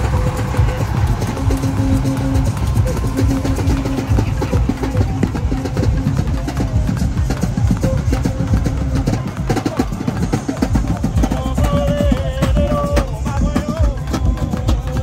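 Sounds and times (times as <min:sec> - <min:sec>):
bass-heavy music with drumbeat: 0:00.0 - 0:15.0
held melody line: 0:00.0 - 0:15.0.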